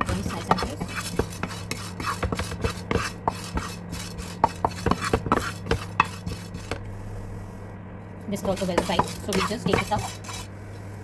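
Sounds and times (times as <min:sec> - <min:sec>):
spatula scraping seeds in pan: 0:00.0 - 0:06.8, 0:08.3 - 0:10.6
steady low hum: 0:00.0 - 0:11.0.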